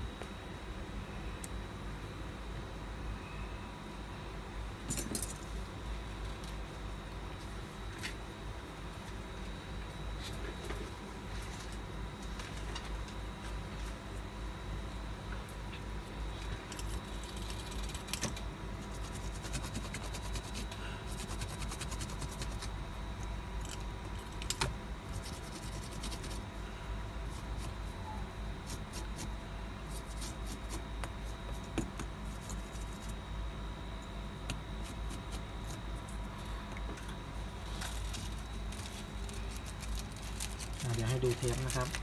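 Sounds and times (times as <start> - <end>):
faint high whine: 0.0 - 42.0
low electrical hum: 0.0 - 42.0.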